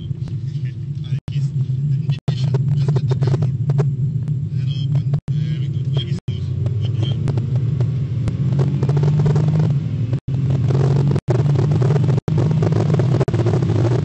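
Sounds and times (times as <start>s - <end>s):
car engine running from cabin: 0.0s - 14.0s.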